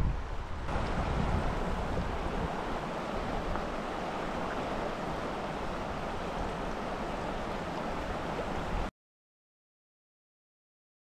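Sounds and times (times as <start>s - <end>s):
river rushing over stones: 0.0s - 8.9s.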